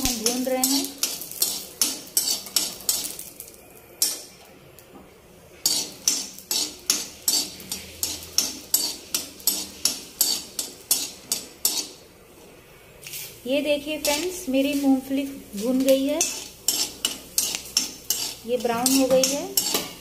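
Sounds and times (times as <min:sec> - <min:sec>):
metal spoon scraping a pan: 0:00.0 - 0:04.4, 0:05.6 - 0:12.1, 0:13.0 - 0:20.0
peanuts roasting in oil: 0:00.0 - 0:20.0.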